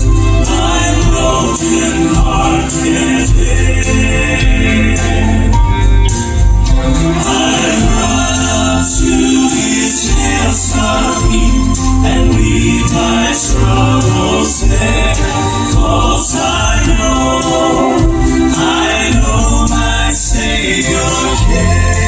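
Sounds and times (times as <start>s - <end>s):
band with strong bass line: 0.0s - 22.0s
male vocal quartet singing in harmony: 0.0s - 22.0s.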